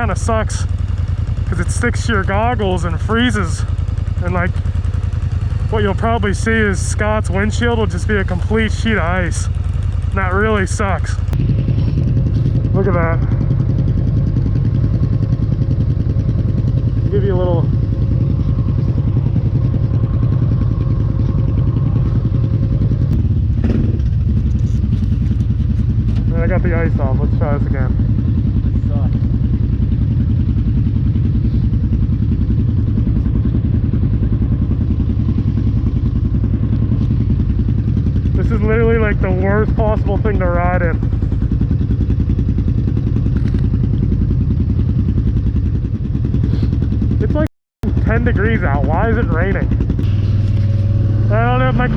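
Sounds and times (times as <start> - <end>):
quad bike engine idling: 0.0 - 51.9.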